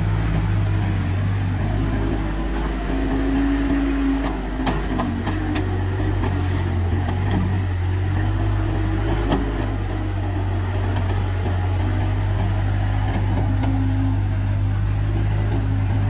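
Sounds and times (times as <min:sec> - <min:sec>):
loader diesel engine running: 0:00.0 - 0:16.0.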